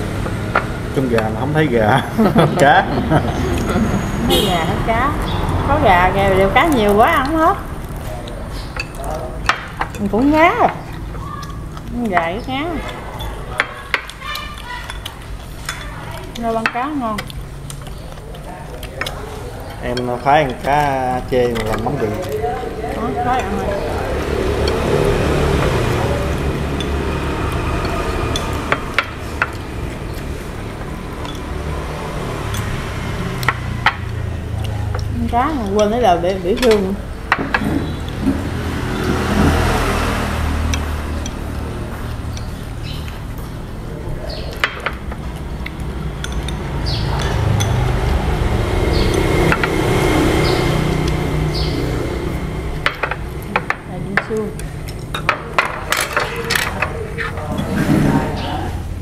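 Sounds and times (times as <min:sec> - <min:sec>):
chopsticks clicking on bowls: 0:06.3 - 0:59.0.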